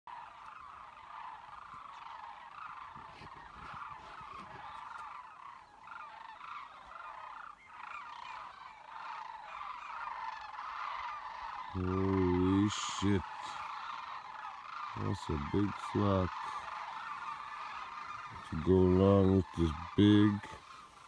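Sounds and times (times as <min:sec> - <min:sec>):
flock of cranes calling: 0:00.1 - 0:21.0.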